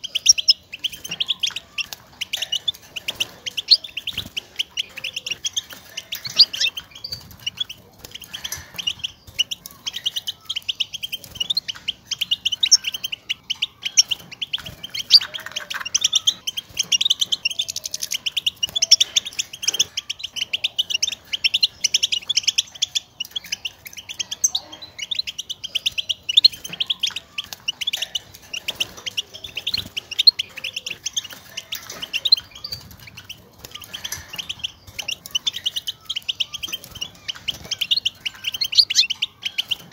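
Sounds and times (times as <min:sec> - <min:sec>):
goldfinch twittering: 0:00.0 - 0:39.9.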